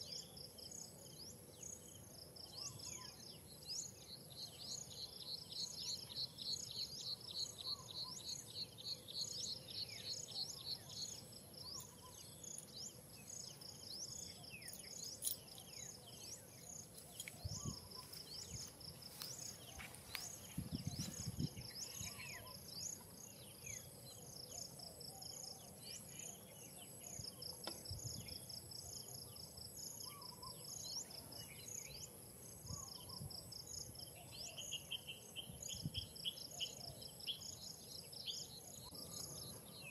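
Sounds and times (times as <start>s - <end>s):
constant high whine: 0.0s - 32.7s
insects pulsing calls: 0.0s - 39.9s
birds chirping: 1.0s - 33.2s.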